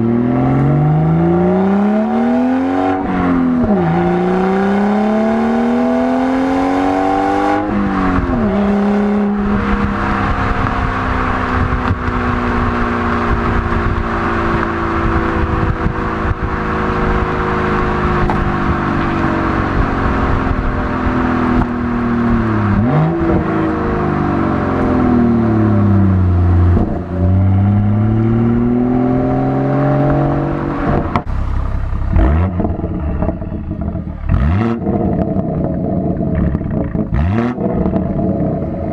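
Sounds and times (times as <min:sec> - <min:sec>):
car engine under throttle: 0:00.0 - 0:38.9.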